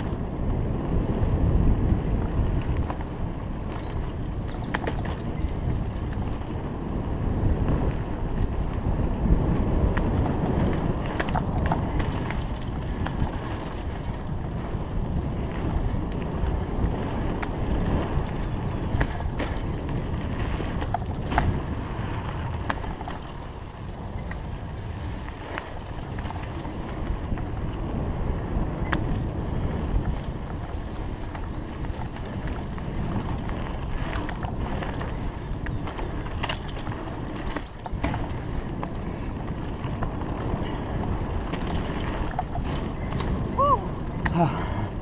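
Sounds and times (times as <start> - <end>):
bike clicks and rattles: 0.0 - 45.0
tyres rumbling on dirt: 0.0 - 45.0
wind buffeting microphone: 0.0 - 45.0.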